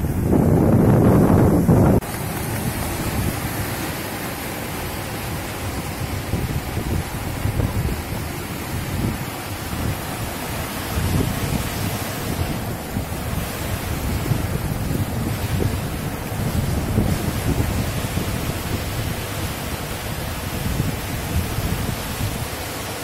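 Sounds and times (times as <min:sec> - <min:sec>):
waves breaking: 0:00.0 - 0:23.0
wind rumbling on microphone: 0:00.0 - 0:23.0.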